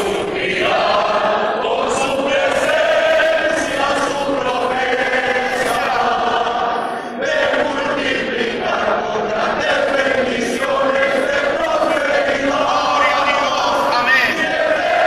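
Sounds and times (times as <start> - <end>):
many voices chanting: 0.0 - 15.0.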